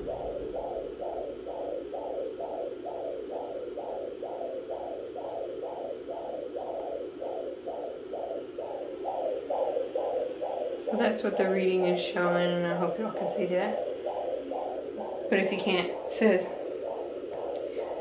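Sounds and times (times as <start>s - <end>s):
fetal heartbeat whoosh: 0.0s - 18.0s.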